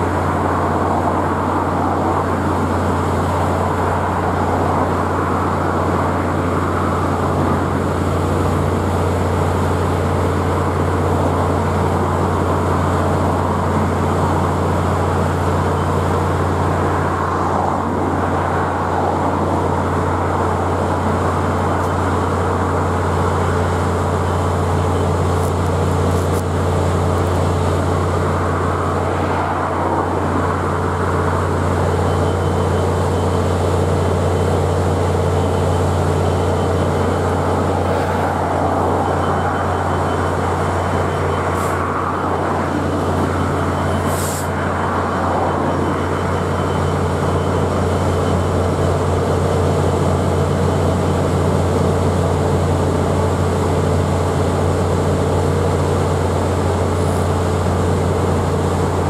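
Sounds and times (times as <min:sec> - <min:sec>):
locomotive diesel engine drone: 0:00.0 - 0:59.0.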